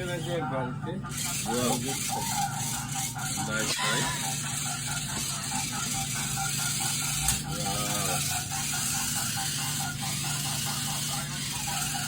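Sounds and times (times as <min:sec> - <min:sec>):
toy car motor whirring: 0:01.0 - 0:12.0
fast mechanical ticking: 0:01.1 - 0:12.0.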